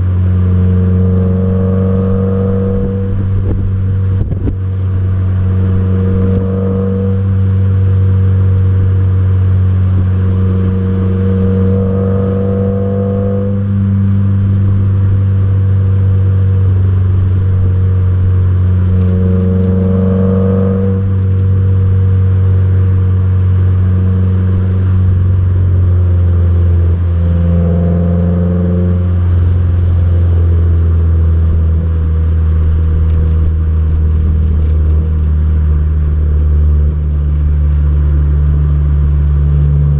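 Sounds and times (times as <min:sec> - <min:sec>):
car engine and exhaust drone: 0:00.0 - 0:39.9.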